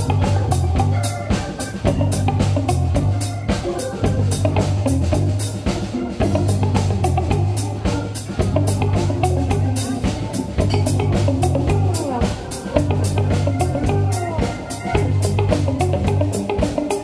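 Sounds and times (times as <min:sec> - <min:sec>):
drum kit steady beat: 0:00.0 - 0:17.0
electric bass: 0:00.0 - 0:17.0
slide guitar: 0:00.0 - 0:17.0.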